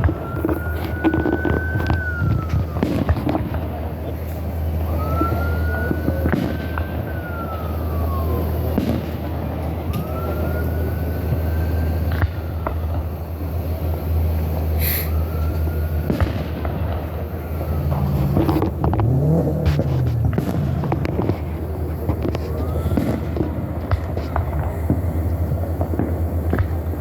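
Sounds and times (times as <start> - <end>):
firework bangs and crackles: 0.0 - 27.0
steady low rumble: 0.0 - 27.0
whistling firework shells: 0.0 - 27.0.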